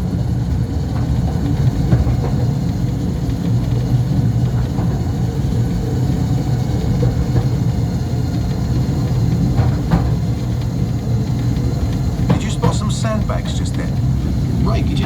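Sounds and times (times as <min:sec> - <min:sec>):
electric train rumbling in tunnel: 0:00.0 - 0:15.0.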